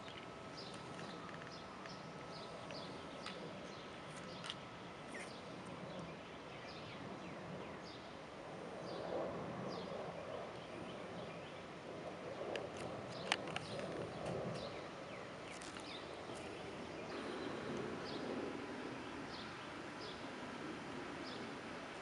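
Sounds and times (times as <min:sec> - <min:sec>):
birds chirping: 0:00.0 - 0:08.1, 0:12.3 - 0:22.0
steady background hiss: 0:00.0 - 0:22.0.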